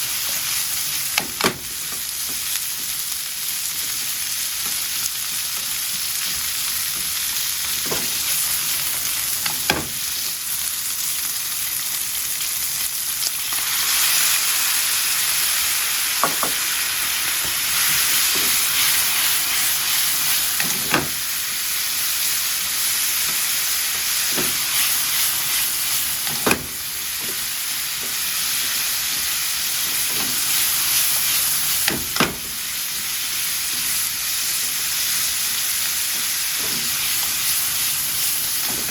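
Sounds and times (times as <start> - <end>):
food sizzling in a frying pan: 0.0 - 38.9.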